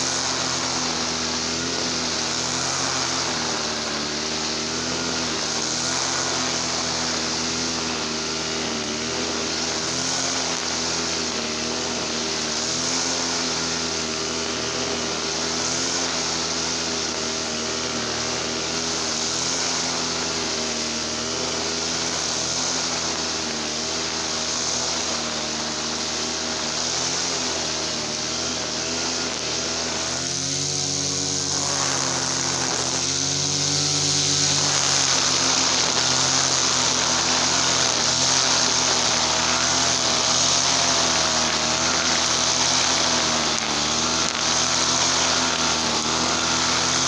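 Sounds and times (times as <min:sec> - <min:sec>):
brush cutter running at high revs: 0:00.0 - 0:47.0.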